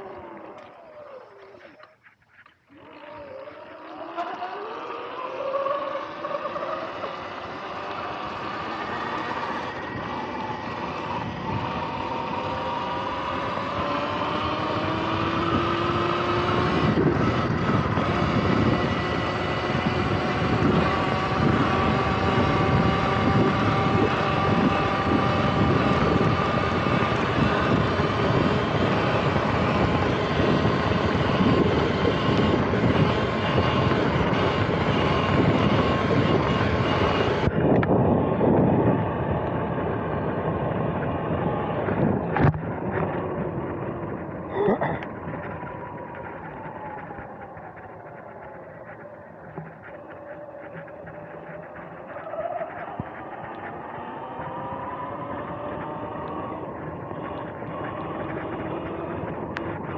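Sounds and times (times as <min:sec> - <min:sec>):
electric motor whining: 0:00.0 - 0:59.9
wind: 0:00.0 - 0:59.9.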